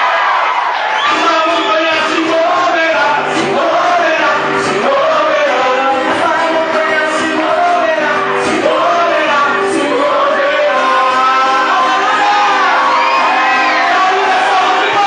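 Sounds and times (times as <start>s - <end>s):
voices singing gospel: 0.2s - 15.0s
amplified band: 1.0s - 15.0s.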